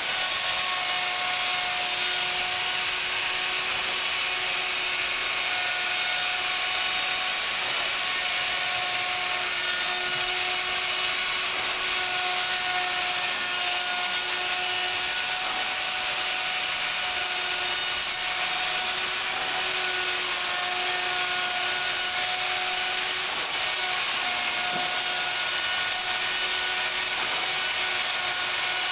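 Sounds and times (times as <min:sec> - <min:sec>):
wood router cutting wood: 0:00.0 - 0:28.9.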